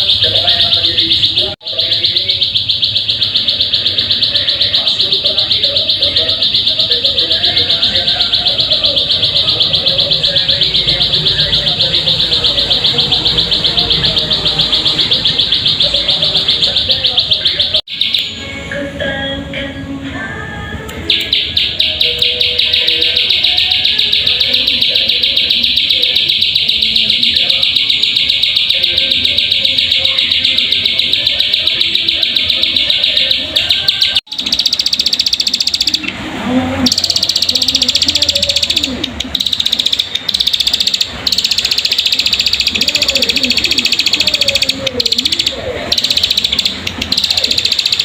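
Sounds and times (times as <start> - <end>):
bird high fast trill: 0.0 - 18.4, 21.1 - 36.1, 36.8 - 48.0.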